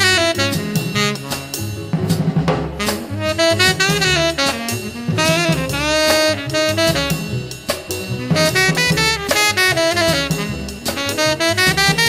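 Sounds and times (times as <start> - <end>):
drums: 0.0 - 12.0
saxophone melody: 0.0 - 12.0.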